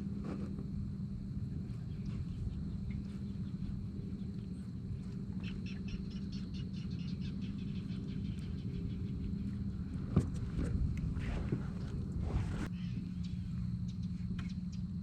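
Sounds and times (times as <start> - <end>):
electric trolling motor humming: 0.0 - 15.0
wind rumble on microphone: 0.0 - 15.0.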